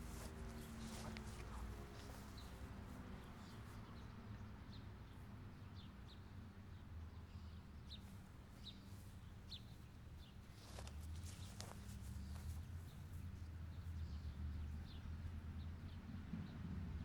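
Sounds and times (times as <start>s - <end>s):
small birds chirping: 0.0s - 16.6s
low steady background hum: 0.0s - 17.0s.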